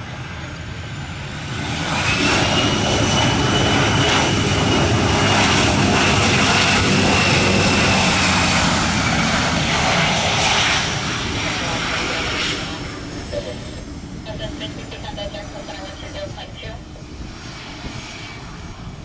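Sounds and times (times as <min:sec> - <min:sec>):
airliner engines roaring: 0:00.0 - 0:19.0
high engine whine: 0:00.0 - 0:19.0.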